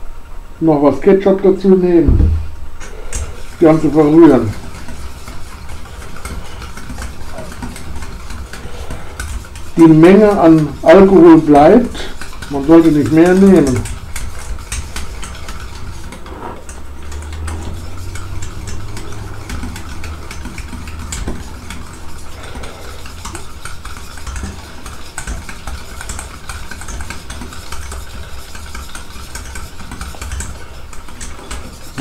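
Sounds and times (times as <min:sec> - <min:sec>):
steady low hum: 0:00.0 - 0:32.0
whisk scraping metal bowl: 0:02.9 - 0:32.0.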